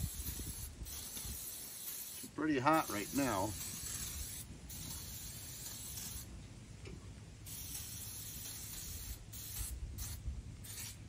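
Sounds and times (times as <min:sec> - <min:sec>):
aerosol spray hissing: 0:00.0 - 0:06.3, 0:07.5 - 0:11.0.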